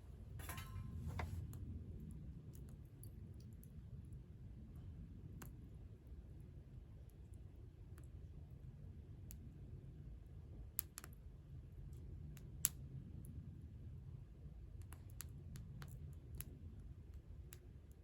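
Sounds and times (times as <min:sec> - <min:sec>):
low fire rumble: 0:00.0 - 0:18.0.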